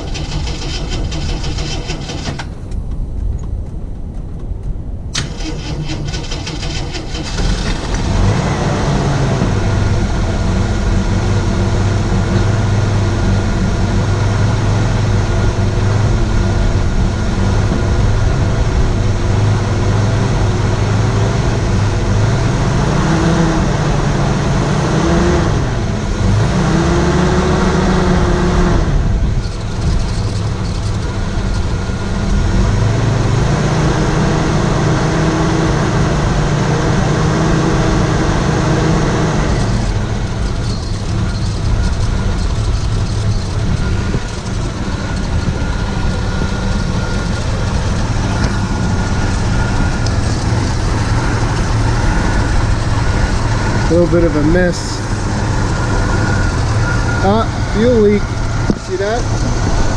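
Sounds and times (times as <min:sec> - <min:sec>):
car engine cranking and running: 0:00.0 - 0:59.9.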